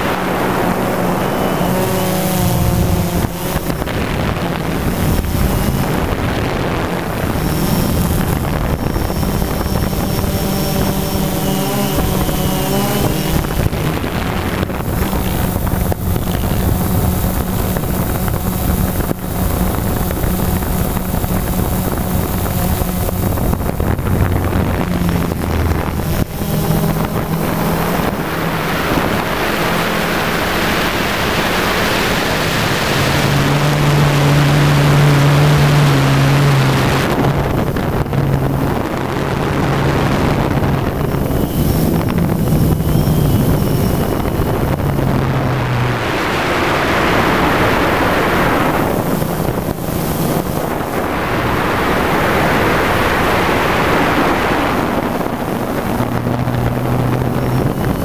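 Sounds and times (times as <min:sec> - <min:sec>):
drone propellers buzzing: 0:00.0 - 0:58.0
wind rush on microphone: 0:00.0 - 0:58.0.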